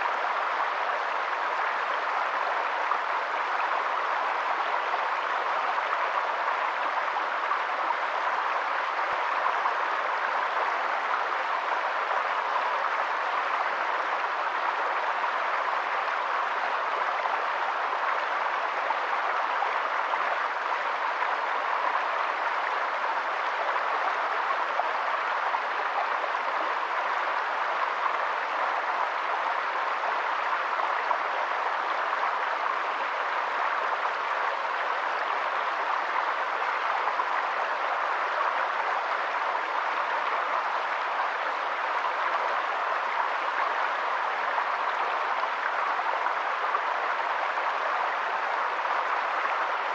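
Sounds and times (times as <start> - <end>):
rushing water: 0.0 - 49.9.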